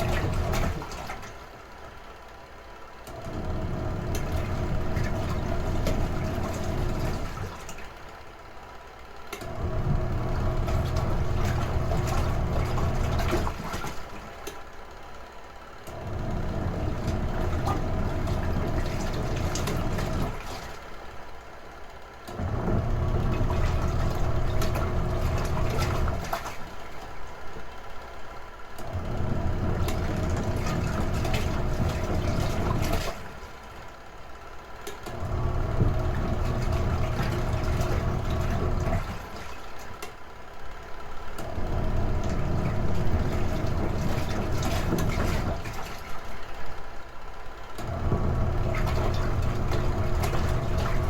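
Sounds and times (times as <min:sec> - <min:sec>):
water churning in tub: 0:00.0 - 0:01.5, 0:03.2 - 0:08.0, 0:09.4 - 0:14.7, 0:15.9 - 0:21.2, 0:22.3 - 0:27.8, 0:28.8 - 0:34.0, 0:35.0 - 0:40.3, 0:41.4 - 0:46.9, 0:47.8 - 0:51.0
washing machine motor and agitator: 0:00.0 - 0:51.0.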